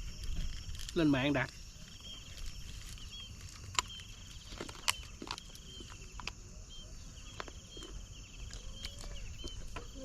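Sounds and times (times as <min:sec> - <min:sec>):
insects chirping in trills: 0:00.0 - 0:10.0
low outdoor background: 0:00.0 - 0:10.0.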